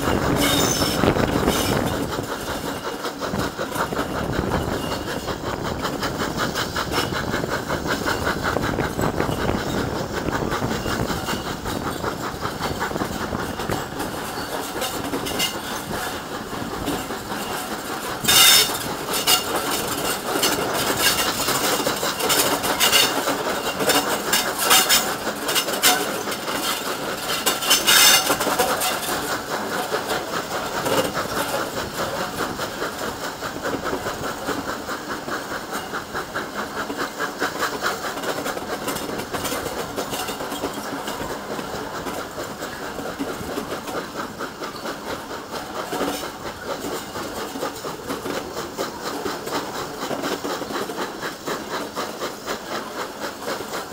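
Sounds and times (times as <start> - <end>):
steam hiss: 0.0 - 53.9
steam locomotive exhaust beats: 0.0 - 53.9
train wheels clanking over rail joints: 0.0 - 53.9.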